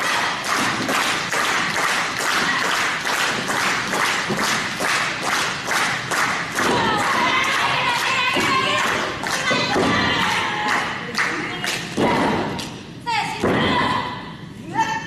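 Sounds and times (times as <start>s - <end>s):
crowd clapping in rhythm: 0.0s - 12.8s.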